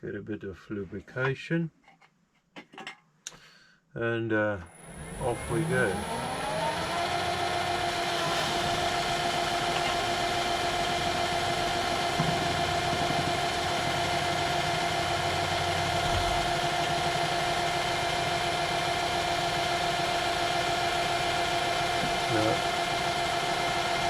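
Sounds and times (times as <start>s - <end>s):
metal lathe whine: 4.7s - 24.0s.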